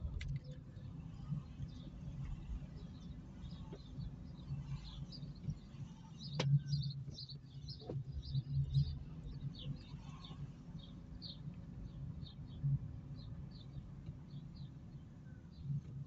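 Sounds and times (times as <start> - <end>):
car driving slowly: 0.0 - 16.0
small birds chirping: 0.3 - 16.0.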